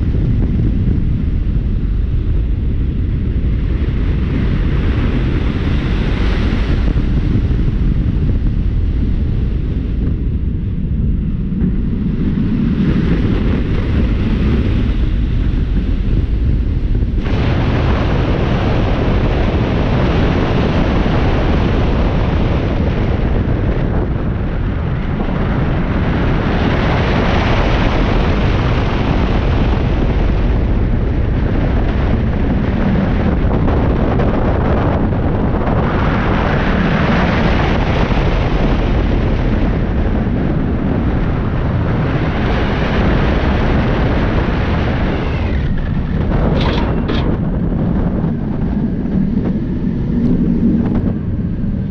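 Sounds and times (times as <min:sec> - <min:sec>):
roller coaster rumbling on track: 0:00.0 - 0:51.9
wind buffeting microphone: 0:00.0 - 0:51.9.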